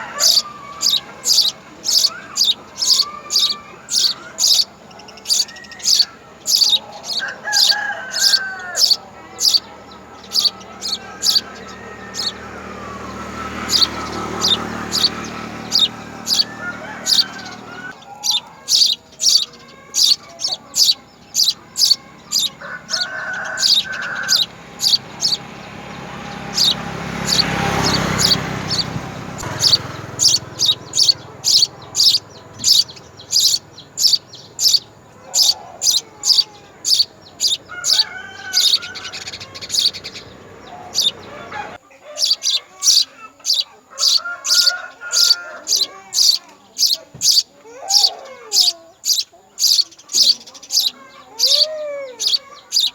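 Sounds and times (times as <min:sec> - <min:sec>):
sparrow chirping: 0:00.0 - 0:52.9.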